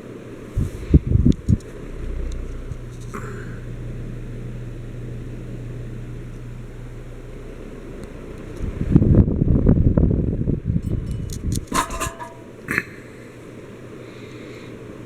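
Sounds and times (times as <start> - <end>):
ceiling fan motor hum: 0.0 - 15.0
low thumps: 0.6 - 12.7.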